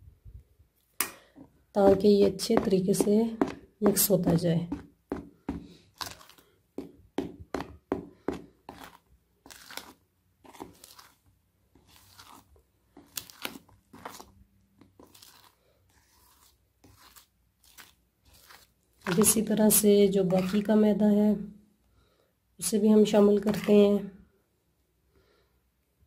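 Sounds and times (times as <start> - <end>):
spoon scraping batter in bowl: 1.3 - 21.4, 22.7 - 24.0.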